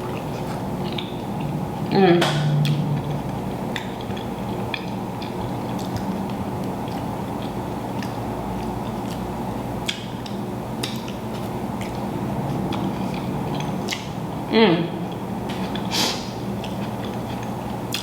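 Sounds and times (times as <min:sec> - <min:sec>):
low background hum: 0:00.0 - 0:18.0
close-up chewing: 0:02.6 - 0:14.2, 0:15.0 - 0:18.0.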